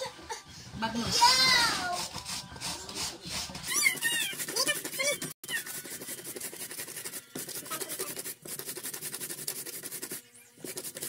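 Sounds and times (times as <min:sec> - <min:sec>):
papaya grated on wooden grater: 0:01.2 - 0:11.0.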